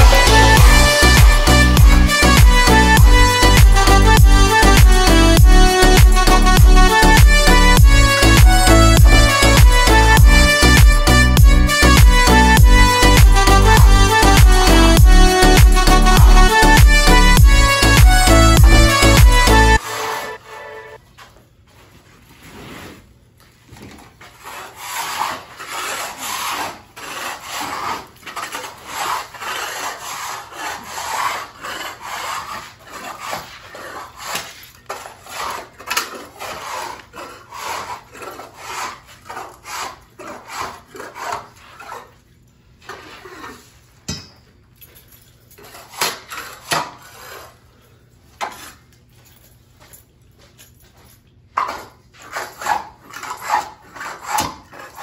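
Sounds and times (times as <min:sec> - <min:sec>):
floor scraper scraping hard floor: 0:00.0 - 0:21.0, 0:22.2 - 0:23.1, 0:23.8 - 0:42.2, 0:42.8 - 0:43.9, 0:45.6 - 0:47.7, 0:51.6 - 0:55.0.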